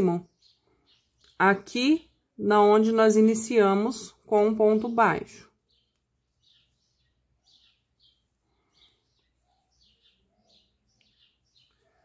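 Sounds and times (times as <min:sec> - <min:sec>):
faint bird chirping: 0:00.0 - 0:12.0.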